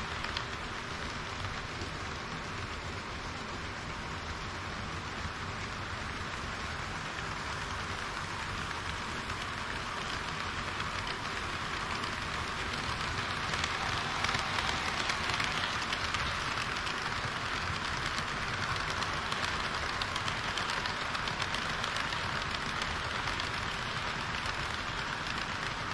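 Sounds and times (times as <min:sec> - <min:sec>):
model train wheels hissing: 0:00.0 - 0:25.9.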